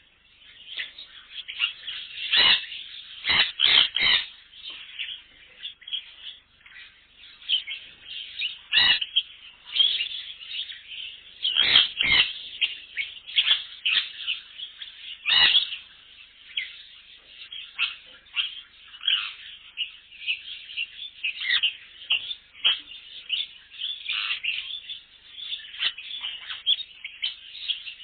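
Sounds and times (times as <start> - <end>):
aviary birds chirping: 0.0 - 28.0
sharp bird calls: 0.0 - 28.0.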